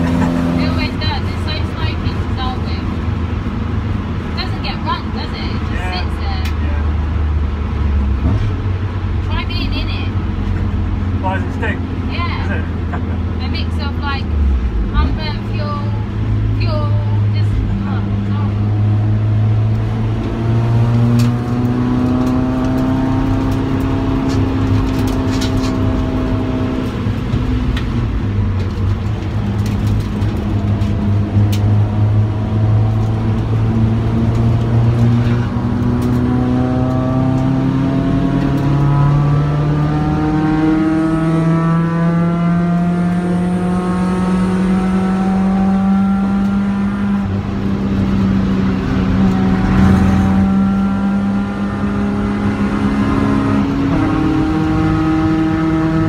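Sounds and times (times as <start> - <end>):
car engine revving under load: 0.0 - 56.0.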